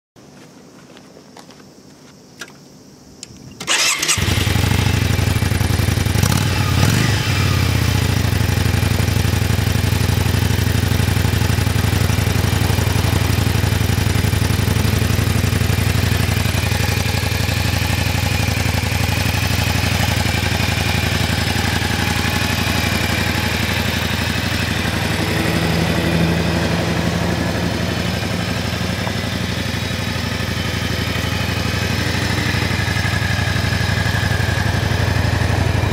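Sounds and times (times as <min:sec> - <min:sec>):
motorcycle engine starting and idling: 0:03.3 - 0:35.9.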